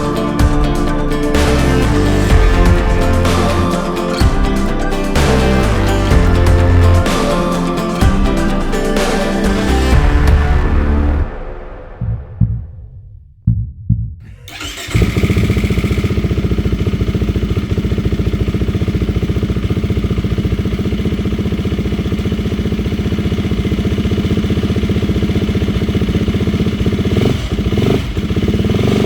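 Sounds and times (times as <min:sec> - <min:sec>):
motorcycle engine idling: 0:00.0 - 0:11.2, 0:14.5 - 0:29.0.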